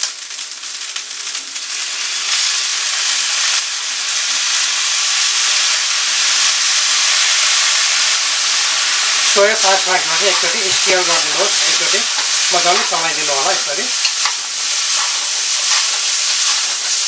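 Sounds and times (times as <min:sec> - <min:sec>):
noodles sizzling in a pan: 0:00.0 - 0:17.0.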